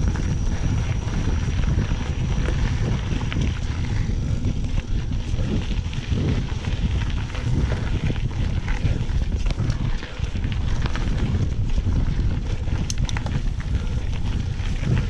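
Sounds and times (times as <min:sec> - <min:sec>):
wind buffeting microphone: 0:00.0 - 0:15.0
bike rattling clicks: 0:00.1 - 0:15.0.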